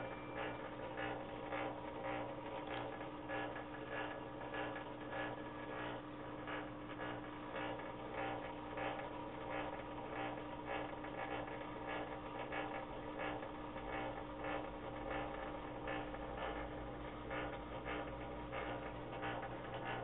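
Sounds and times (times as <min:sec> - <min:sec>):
aquarium air pump hum: 0:00.0 - 0:20.0.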